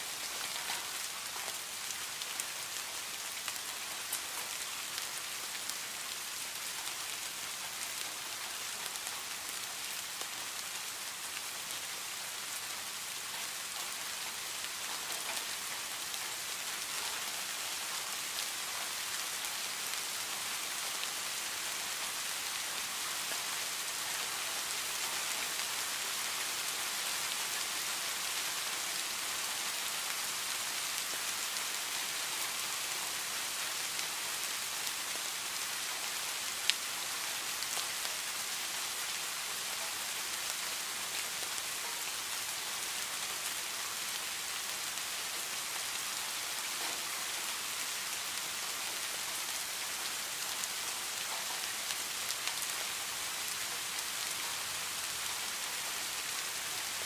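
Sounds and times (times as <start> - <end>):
heavy rain on leaves: 0.0 - 57.0.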